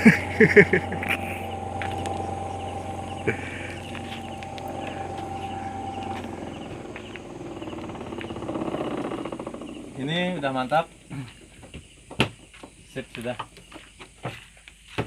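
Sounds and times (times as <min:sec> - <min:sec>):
motor whine: 0:00.0 - 0:12.2
washing machine motor humming: 0:00.0 - 0:12.5.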